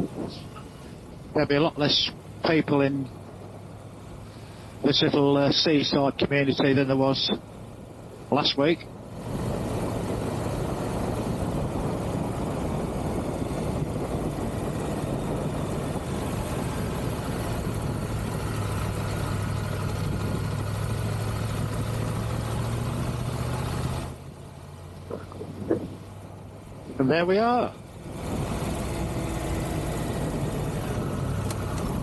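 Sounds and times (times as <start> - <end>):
motorcycle engine hum: 0.0 - 32.0
wind and road rush: 0.0 - 32.0.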